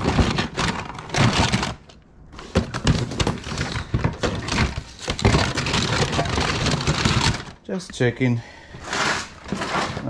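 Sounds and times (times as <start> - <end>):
items rustling and clattering: 0.0 - 8.1, 8.7 - 10.0.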